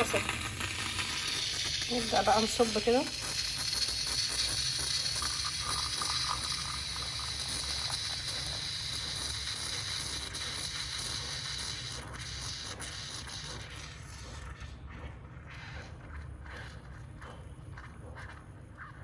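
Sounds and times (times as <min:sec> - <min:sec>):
moka pot hissing: 0:00.0 - 0:14.7, 0:15.5 - 0:19.0.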